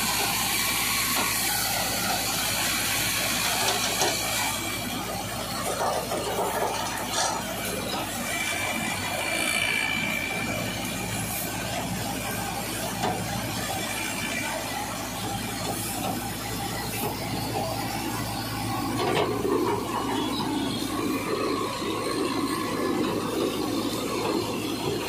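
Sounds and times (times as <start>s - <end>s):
tractor engine hum: 0.0s - 25.0s.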